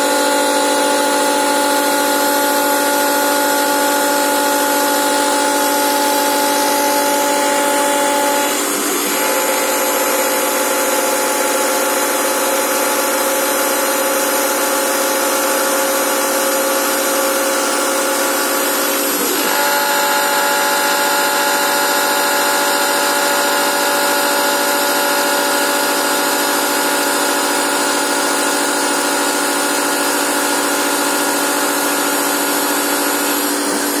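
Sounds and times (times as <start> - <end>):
metal cutting noise: 0.0 - 34.0
milling machine spindle whine: 0.0 - 34.0.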